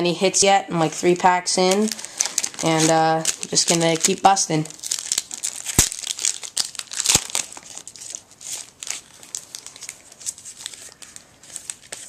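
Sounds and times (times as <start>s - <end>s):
wrapper crinkling: 1.1s - 12.0s.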